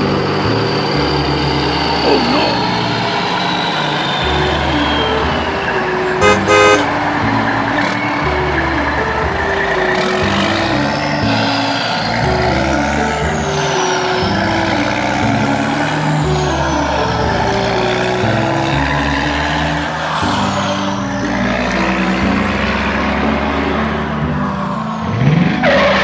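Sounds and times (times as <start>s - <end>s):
truck engine noise: 0.0s - 26.0s.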